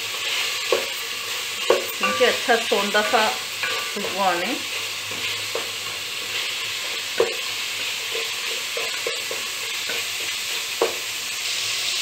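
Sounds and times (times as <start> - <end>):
wooden spatula scraping a pot: 0.0 - 11.0
meat sizzling in oil: 0.0 - 12.0.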